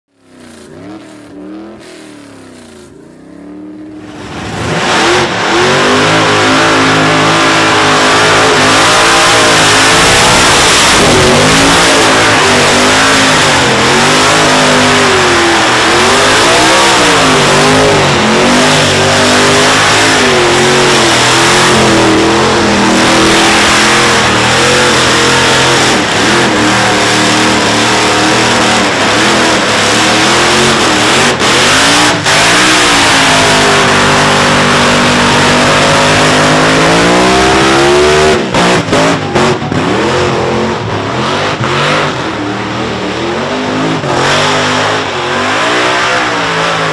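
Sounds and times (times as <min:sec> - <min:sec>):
engine revving: 0:00.1 - 0:46.9.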